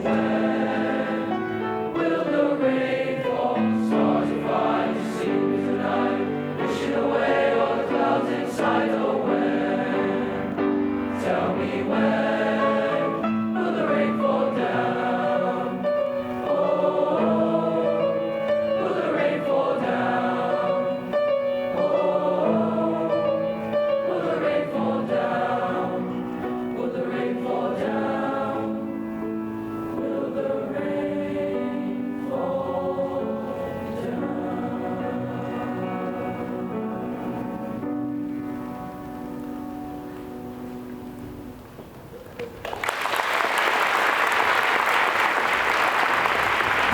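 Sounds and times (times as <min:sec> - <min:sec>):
bass choir singing: 0:00.0 - 0:38.1.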